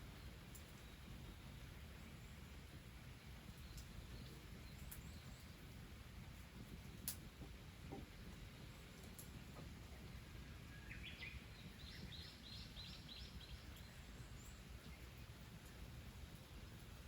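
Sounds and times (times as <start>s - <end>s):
faint low outdoor rumble: 0.0s - 17.0s.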